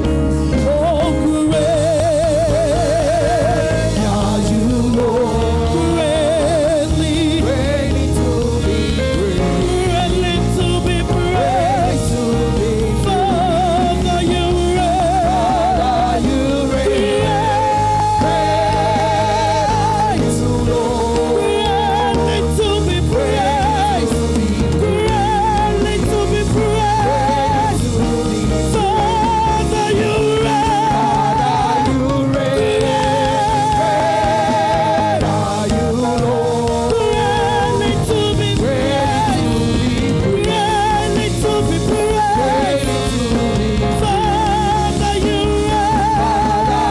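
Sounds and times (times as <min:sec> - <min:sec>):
band accompaniment: 0:00.0 - 0:46.9
person singing with vibrato: 0:00.0 - 0:46.9.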